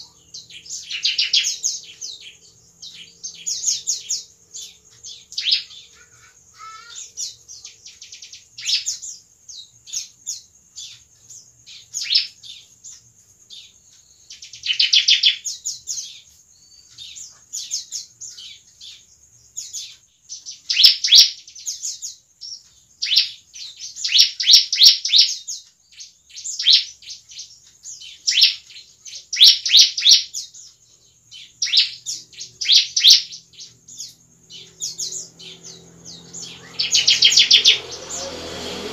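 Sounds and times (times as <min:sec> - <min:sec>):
bird rapid high chirps: 0:00.0 - 0:38.9.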